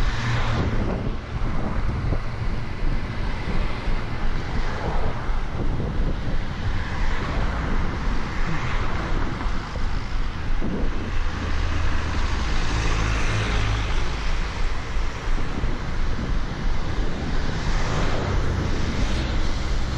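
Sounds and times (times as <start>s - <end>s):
heavy vehicle engine droning: 0.0s - 19.9s
road traffic passing: 0.0s - 19.9s
wind buffeting microphone: 0.0s - 19.9s.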